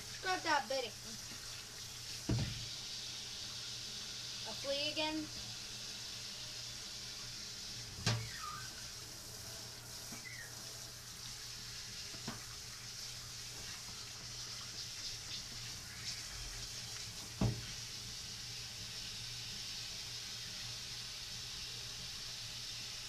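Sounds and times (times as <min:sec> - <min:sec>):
tap water running: 0:00.0 - 0:23.0.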